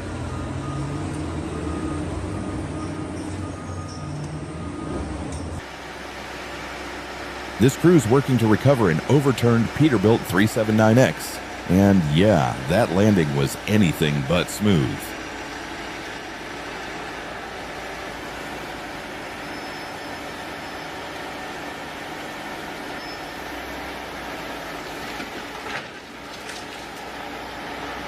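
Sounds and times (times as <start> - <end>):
heavy vehicle engines running: 0.0 - 28.0.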